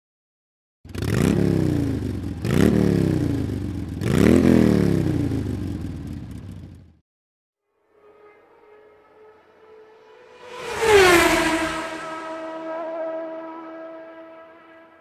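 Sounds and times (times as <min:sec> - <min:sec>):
engine revving: 0:00.9 - 0:05.9, 0:07.8 - 0:15.0.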